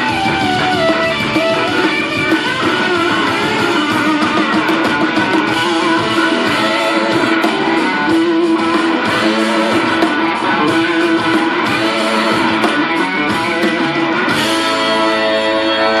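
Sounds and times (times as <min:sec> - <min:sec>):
blues-rock band playing: 0:00.0 - 0:16.0
electric guitar: 0:00.0 - 0:16.0.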